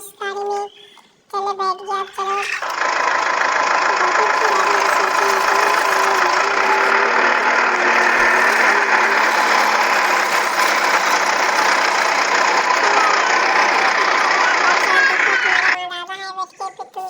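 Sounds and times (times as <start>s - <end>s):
toy vehicle buzzing: 1.9s - 16.1s.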